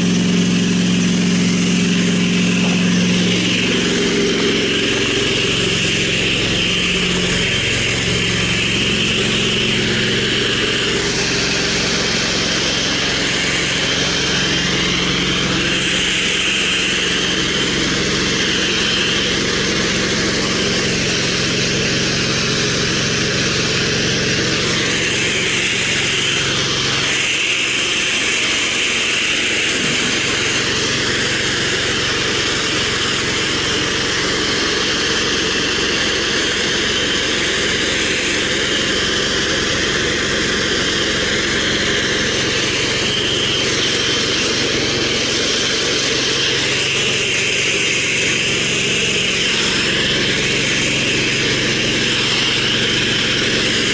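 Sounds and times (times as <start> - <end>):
pressure washer engine running: 0.0 - 53.9
spray gun hissing: 0.0 - 53.9.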